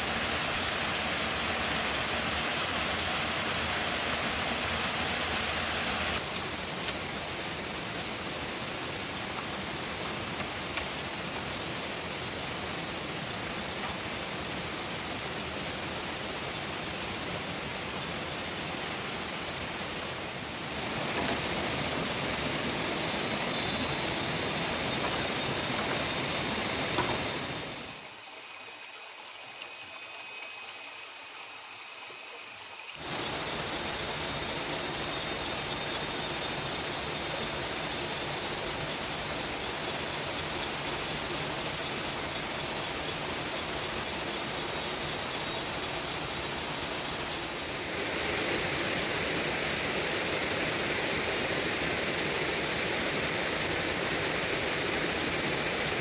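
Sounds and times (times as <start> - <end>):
steady rushing noise: 0.0 - 28.1, 33.0 - 56.0.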